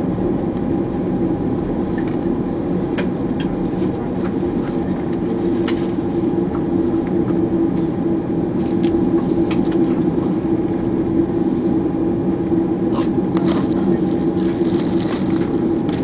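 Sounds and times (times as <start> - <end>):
airliner cabin hum: 0.0 - 16.0.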